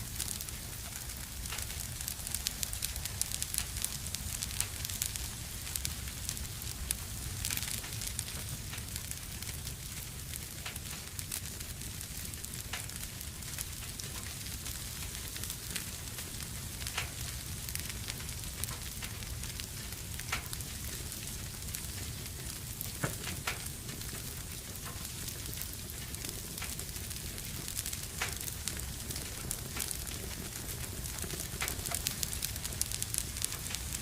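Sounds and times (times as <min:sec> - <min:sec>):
fire hissing: 0:00.0 - 0:34.0
wood fire crackling and popping: 0:00.0 - 0:34.0.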